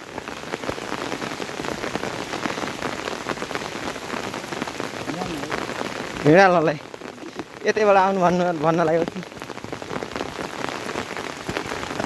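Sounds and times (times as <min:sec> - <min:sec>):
steady rain patter: 0:00.0 - 0:12.0.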